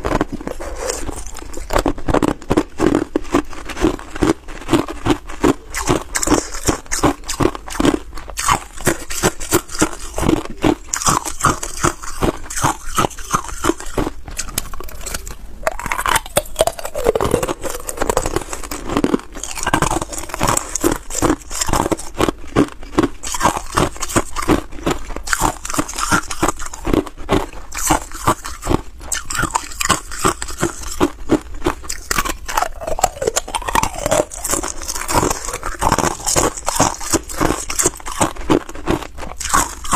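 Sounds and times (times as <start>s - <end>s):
ice cubes being chewed: 0.0s - 39.9s.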